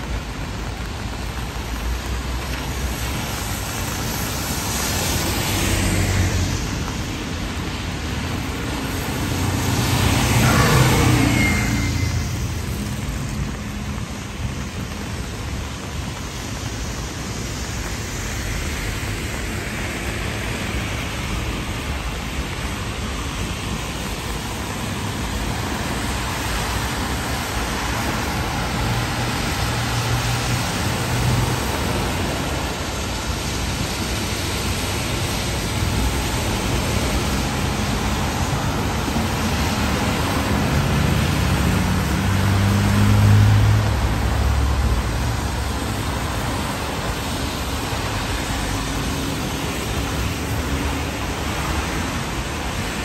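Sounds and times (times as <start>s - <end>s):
rain hissing: 0.0s - 53.0s
vehicles passing on wet road: 0.0s - 53.0s.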